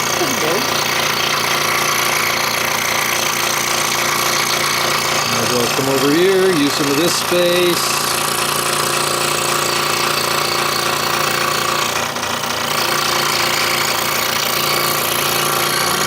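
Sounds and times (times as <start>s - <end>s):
scroll saw cutting wood: 0.0s - 16.0s.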